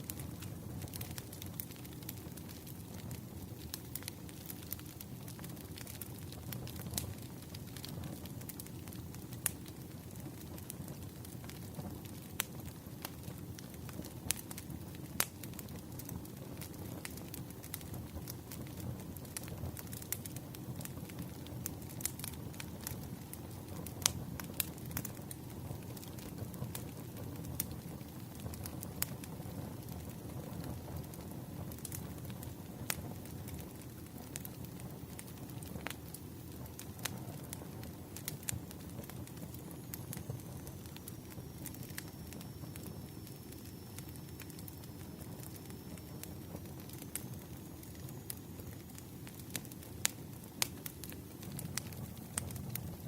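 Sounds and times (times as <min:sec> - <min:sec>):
firewood popping: 0:00.0 - 0:53.0
low rumble of flames: 0:00.0 - 0:53.0
wood fire crackling: 0:00.0 - 0:53.0.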